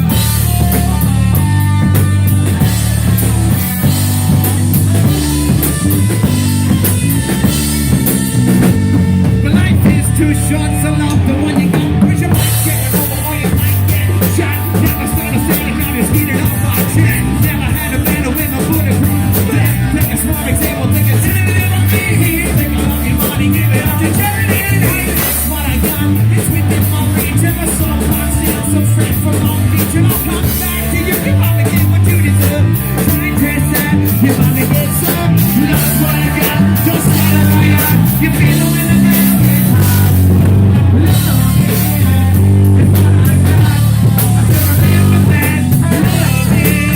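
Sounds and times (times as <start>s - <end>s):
drum kit: 0.0s - 46.9s
live rock band playing: 0.0s - 46.9s
person singing: 0.0s - 46.9s
pulsing bass line: 0.0s - 46.9s.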